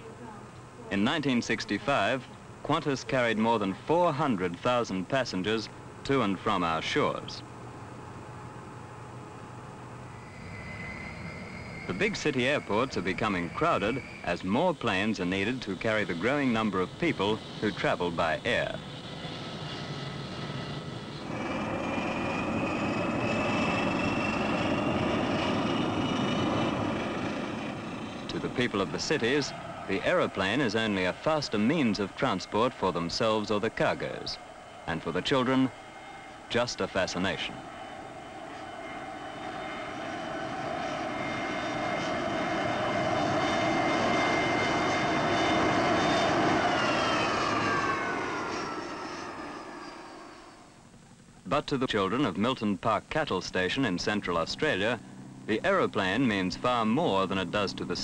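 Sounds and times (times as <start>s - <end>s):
propeller engine running: 0.0s - 51.4s, 53.8s - 58.0s
thin high whine: 0.0s - 58.0s.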